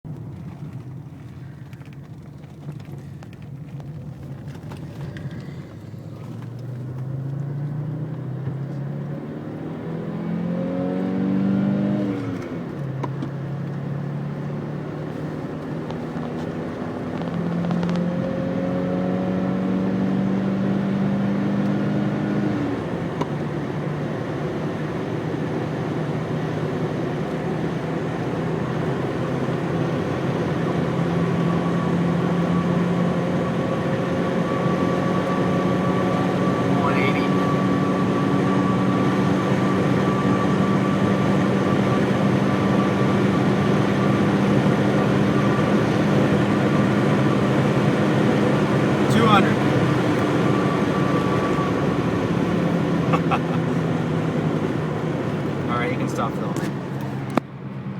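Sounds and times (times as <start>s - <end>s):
turbocharged car engine accelerating: 0.0s - 57.9s.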